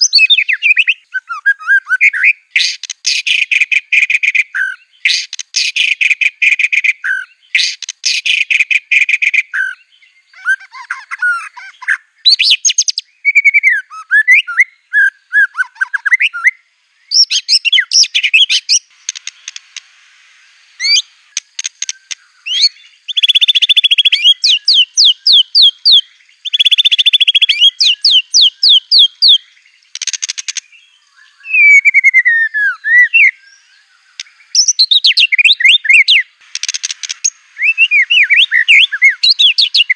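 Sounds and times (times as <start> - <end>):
bird singing trills and whistles: 0.0 - 19.9, 20.6 - 39.9.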